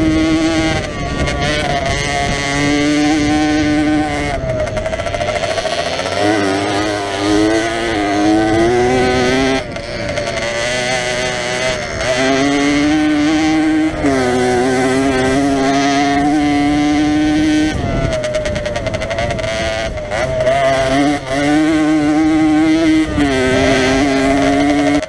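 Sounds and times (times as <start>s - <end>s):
two-stroke engine revving: 0.0s - 25.0s.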